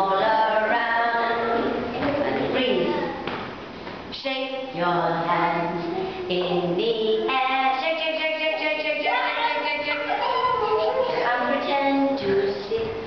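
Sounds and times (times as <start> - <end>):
woman singing: 0.0 - 2.8, 4.1 - 13.0
children singing along: 0.0 - 3.2, 4.2 - 13.0.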